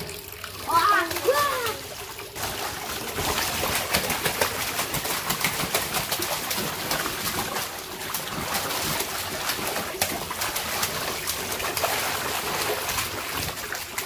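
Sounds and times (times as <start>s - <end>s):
water splashing in paddling pool: 0.0s - 14.0s.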